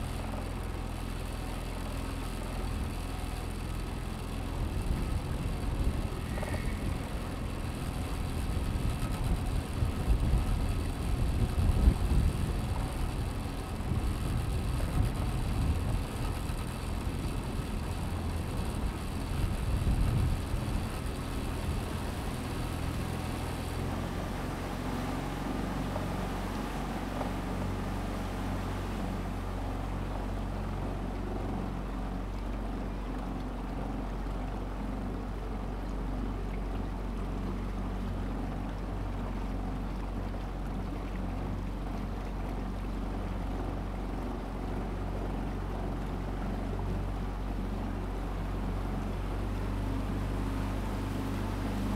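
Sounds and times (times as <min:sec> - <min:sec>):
motorboat engine humming: 0:00.0 - 0:51.9.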